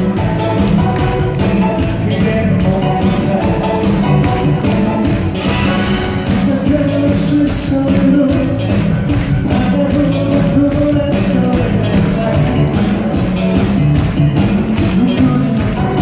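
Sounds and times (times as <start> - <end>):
live band pop music: 0.0 - 16.0
steady drum beat: 0.0 - 16.0.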